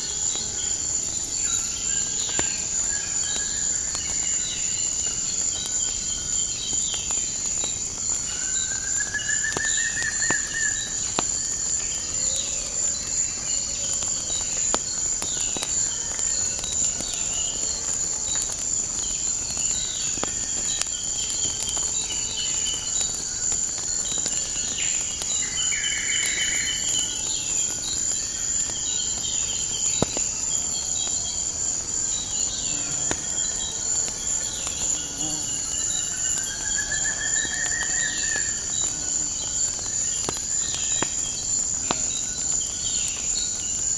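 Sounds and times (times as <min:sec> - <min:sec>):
wood fire crackling: 0:00.0 - 0:09.5, 0:10.1 - 0:43.9
crickets chirring: 0:00.0 - 0:43.9.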